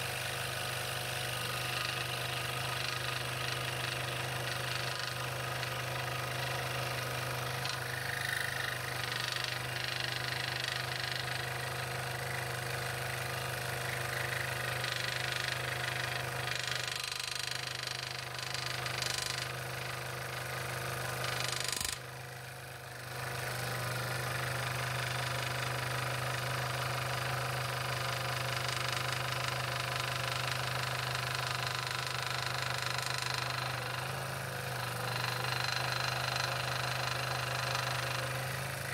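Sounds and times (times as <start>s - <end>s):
scroll saw cutting wood: 0.0s - 22.5s, 23.2s - 38.9s.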